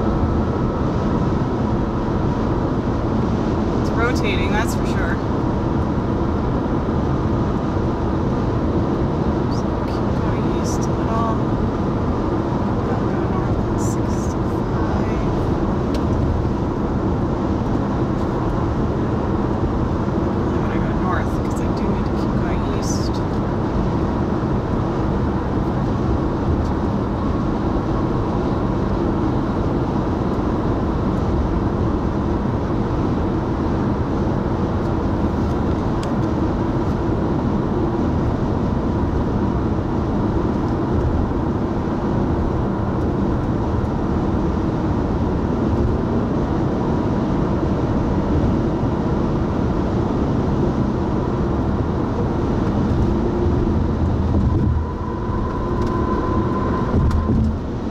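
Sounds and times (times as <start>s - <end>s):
car driving at highway speed: 0.0s - 57.9s.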